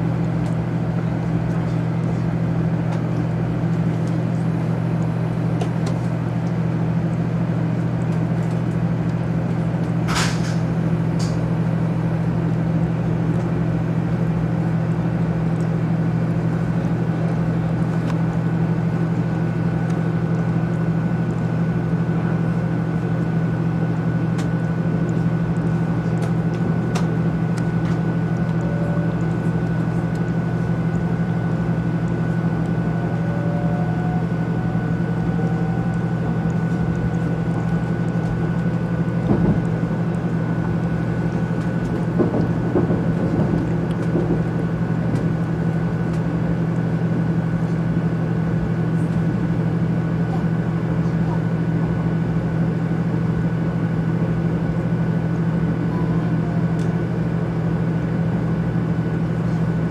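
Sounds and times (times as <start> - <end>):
train cabin hum and rumble: 0.0 - 59.9.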